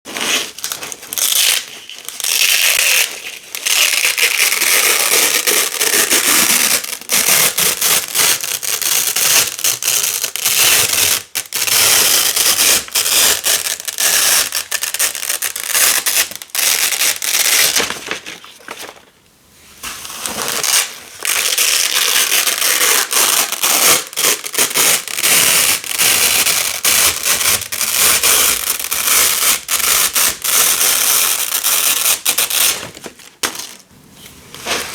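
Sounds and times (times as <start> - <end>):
velcro tape being peeled apart: 0.6 - 18.1, 20.3 - 32.9.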